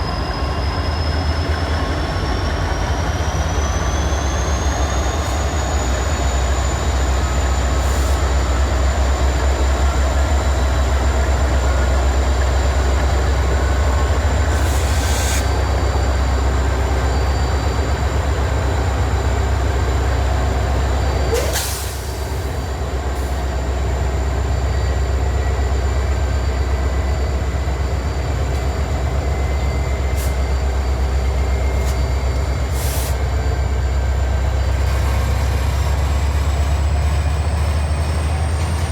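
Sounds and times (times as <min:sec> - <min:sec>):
freight train cars rumbling: 0:00.0 - 0:38.9.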